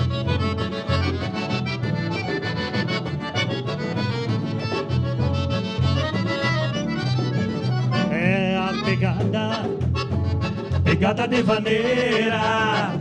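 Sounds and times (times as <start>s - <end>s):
accordion: 0.0s - 13.0s
bass line: 0.0s - 13.0s.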